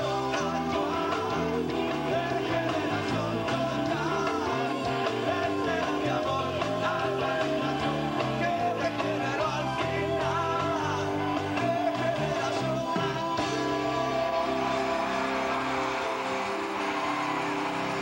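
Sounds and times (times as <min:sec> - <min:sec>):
man singing: 0:00.0 - 0:15.6
rock band playing: 0:00.0 - 0:18.0.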